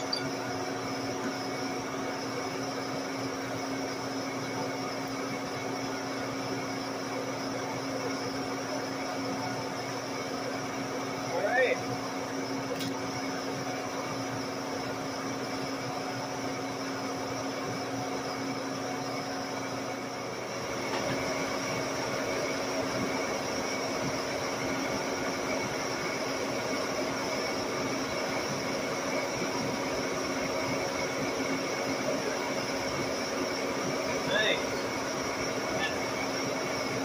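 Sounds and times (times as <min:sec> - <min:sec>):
metal lathe humming: 0:00.0 - 0:37.0.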